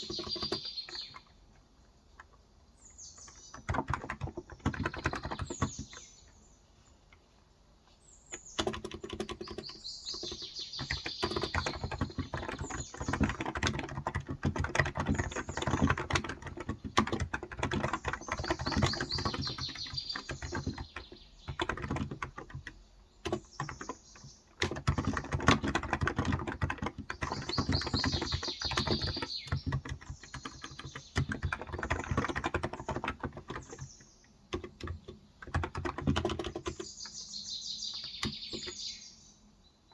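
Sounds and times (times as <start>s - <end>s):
keyboard typing: 0.0s - 1.3s, 3.2s - 6.0s, 8.3s - 33.9s, 34.5s - 37.2s, 37.9s - 38.8s
birds chirping: 0.0s - 39.9s.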